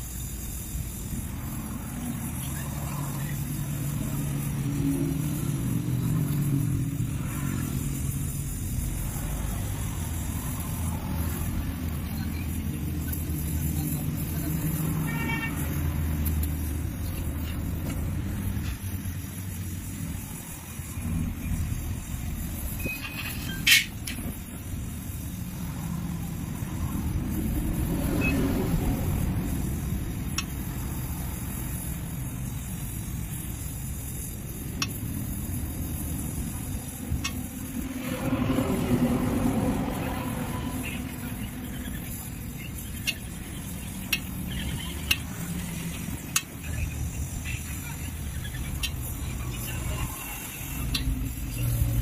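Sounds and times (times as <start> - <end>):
welding torch flame hissing: 0.0 - 52.0.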